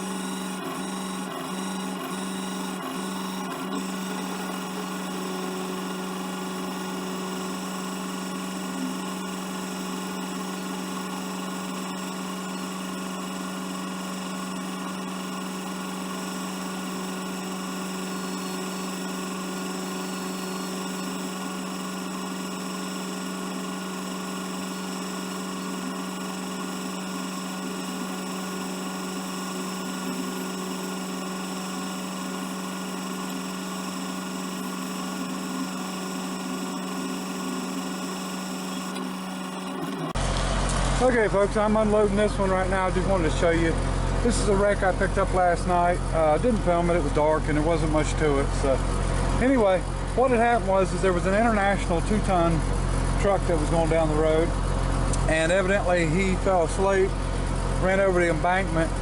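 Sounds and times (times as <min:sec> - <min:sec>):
hydraulic pump hum and whine: 0:00.0 - 0:59.0.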